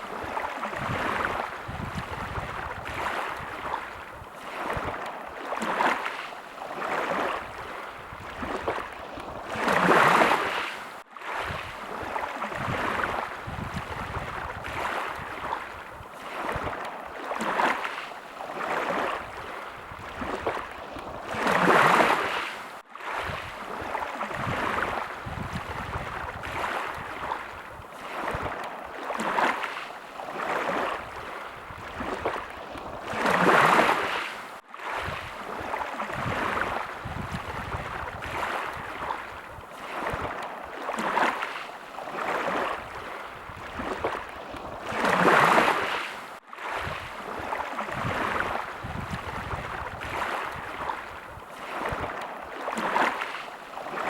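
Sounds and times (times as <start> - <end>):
bigger wave surging in: 0.0 - 54.0
small waves lapping: 0.0 - 54.0.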